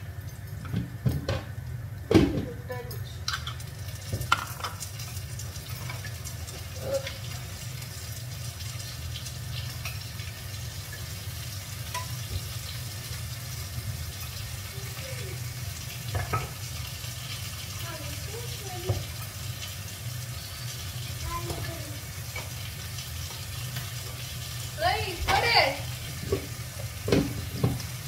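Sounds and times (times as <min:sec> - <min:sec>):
spices sizzling in hot oil: 0:00.0 - 0:28.0.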